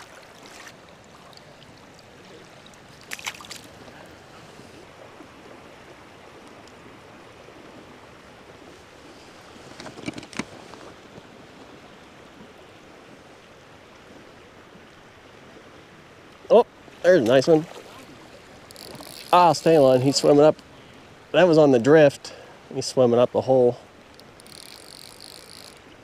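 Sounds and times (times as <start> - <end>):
creek water running: 0.0 - 26.0.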